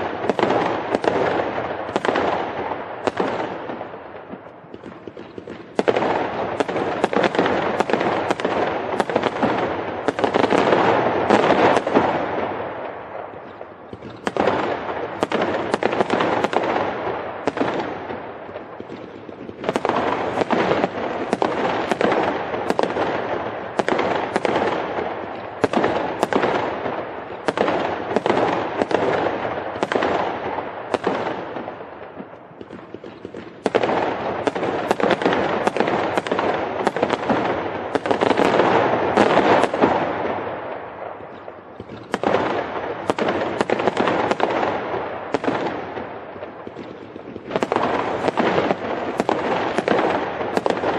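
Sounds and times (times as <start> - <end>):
fireworks banging and crackling: 0.0 - 50.9.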